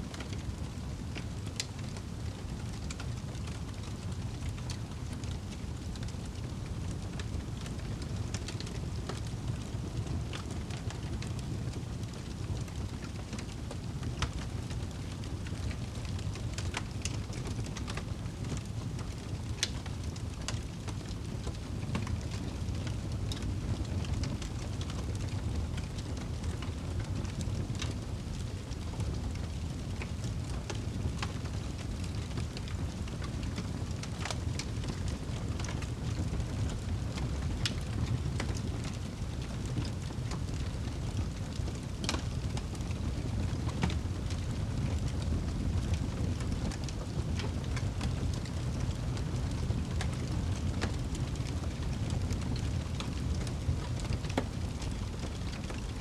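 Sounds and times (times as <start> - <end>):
fireplace fire crackling: 0.0 - 56.0.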